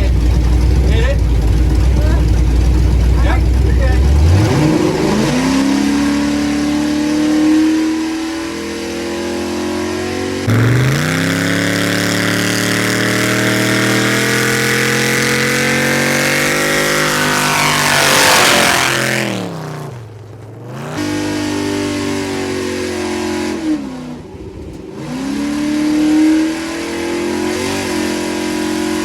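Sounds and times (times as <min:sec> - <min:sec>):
truck engine revving high: 0:00.0 - 0:29.0.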